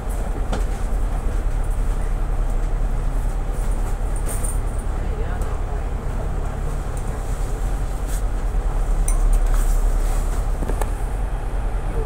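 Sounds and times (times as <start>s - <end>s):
bus diesel engine idling: 0.0s - 12.0s.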